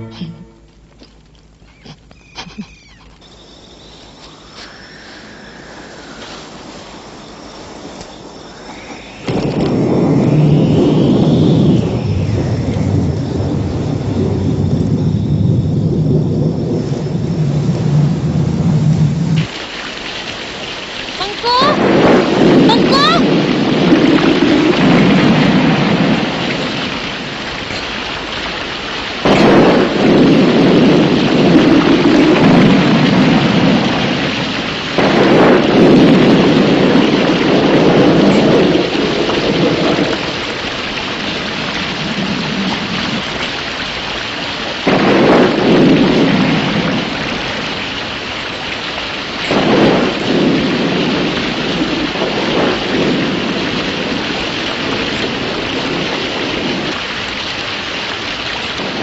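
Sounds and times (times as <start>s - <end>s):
steady rain: 0.0s - 59.0s
thunder rolling: 4.4s - 59.0s.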